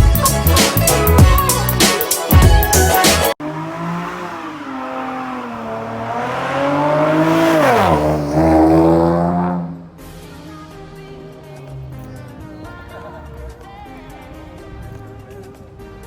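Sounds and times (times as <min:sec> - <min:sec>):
car engine accelerating: 0:02.7 - 0:16.0.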